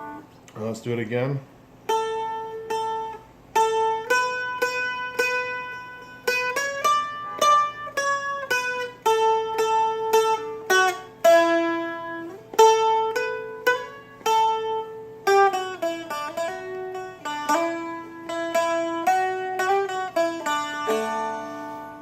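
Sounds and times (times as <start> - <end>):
drone strings ringing: 1.9 - 22.0
flatpicked dulcimer melody: 1.9 - 22.0.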